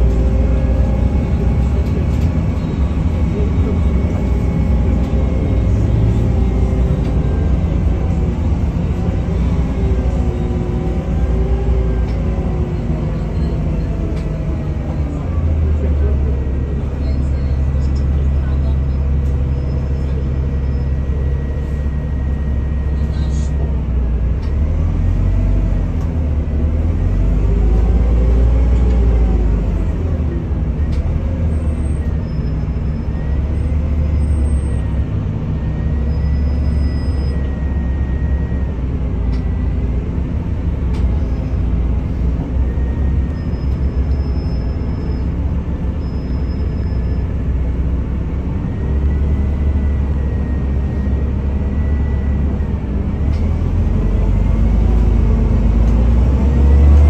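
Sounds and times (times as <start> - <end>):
bus engine low rumble: 0.0 - 57.0.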